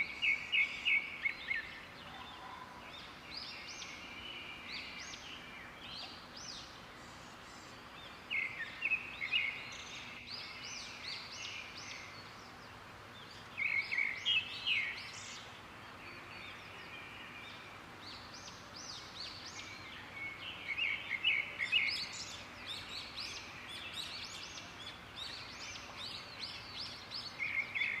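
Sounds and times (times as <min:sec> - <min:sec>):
faint background hiss: 0:00.0 - 0:28.0
small birds chirping: 0:00.0 - 0:28.0.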